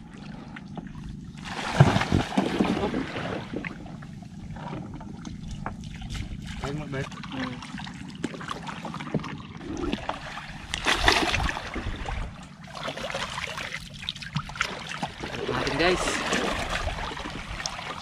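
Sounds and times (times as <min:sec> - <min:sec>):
water splashing against wooden boat: 0:00.0 - 0:18.0.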